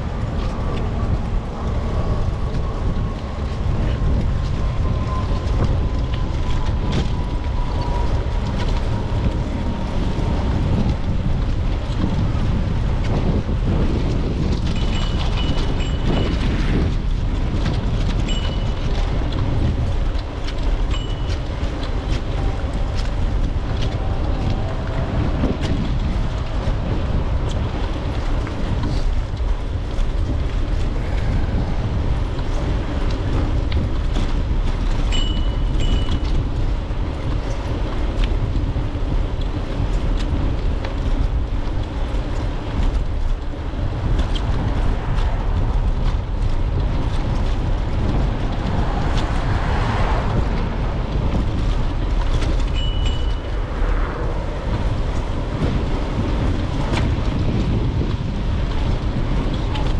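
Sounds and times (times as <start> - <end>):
bicycle clicks and rattles: 0.0 - 59.9
wind on microphone: 0.0 - 59.9.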